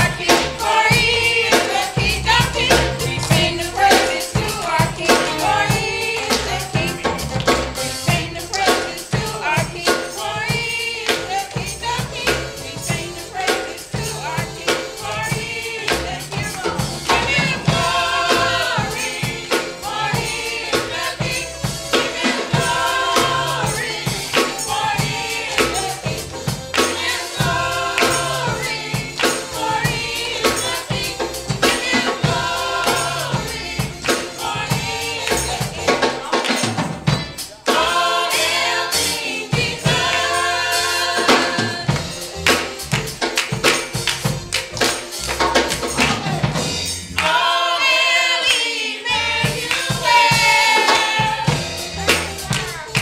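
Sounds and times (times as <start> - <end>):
choir singing gospel song: 0.0 - 53.0
steady percussion beat: 0.0 - 53.0.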